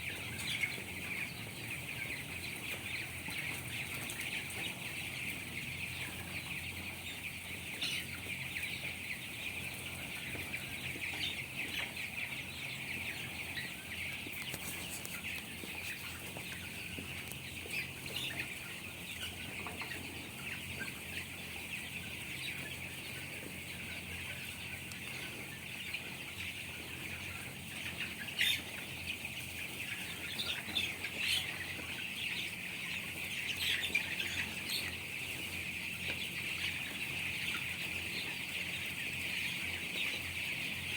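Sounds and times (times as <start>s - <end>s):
chicks peeping and chirping: 0.0s - 40.9s.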